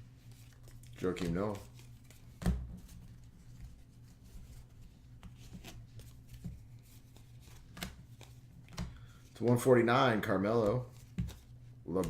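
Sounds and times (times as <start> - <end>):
low electrical hum: 0.0 - 12.0
cards sliding and shuffling: 0.2 - 9.6, 10.6 - 12.0.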